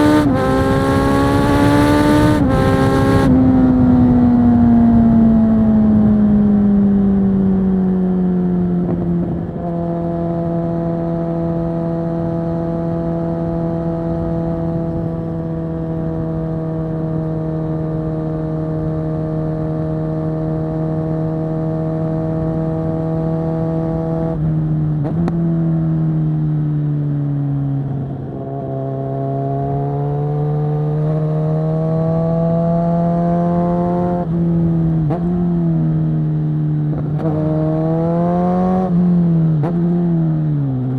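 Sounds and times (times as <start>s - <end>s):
motorcycle engine revving: 0.0s - 26.2s, 27.2s - 40.9s.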